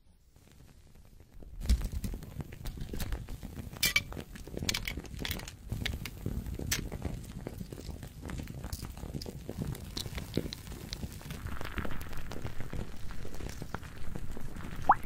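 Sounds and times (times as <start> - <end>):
foil popping: 0.4 - 15.0.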